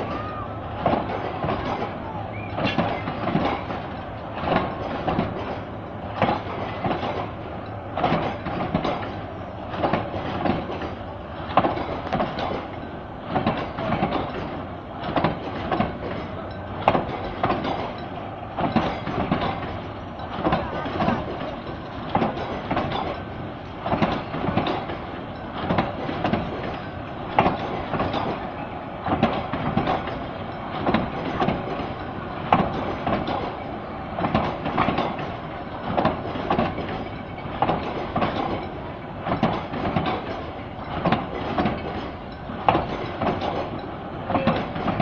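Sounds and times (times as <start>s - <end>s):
train rumble: 0.0s - 45.0s
train wheels clacking: 0.0s - 45.0s.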